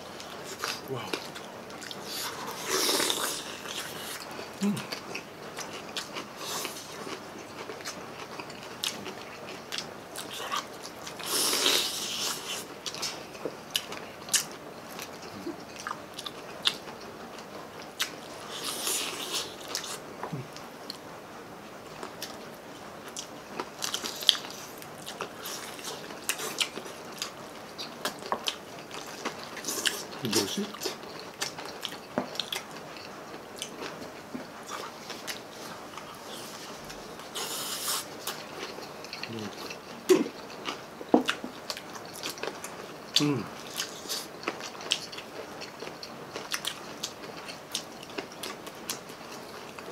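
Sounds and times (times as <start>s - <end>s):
wet chewing: 0.1s - 21.0s, 23.0s - 49.9s.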